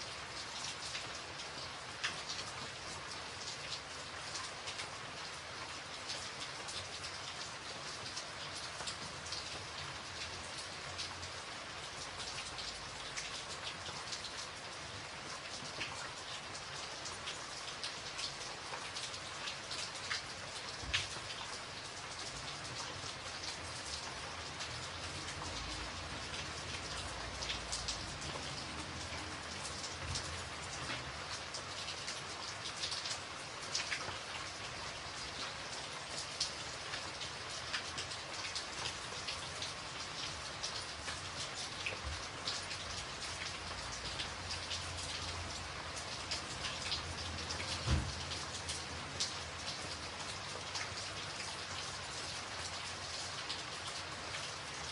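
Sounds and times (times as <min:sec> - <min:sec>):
rain falling steadily: 0:00.0 - 0:54.9.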